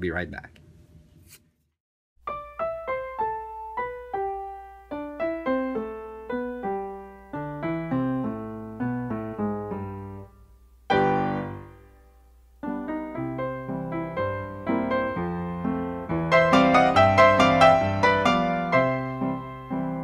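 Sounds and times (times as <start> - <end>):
solo piano music: 2.2 - 20.0.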